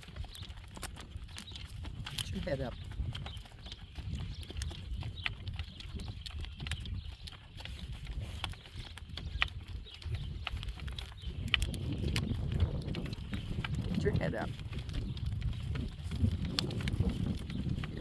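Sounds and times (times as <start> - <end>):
horse hooves clip-clopping: 0.0 - 18.0
wind rumbling on microphone: 0.0 - 18.0.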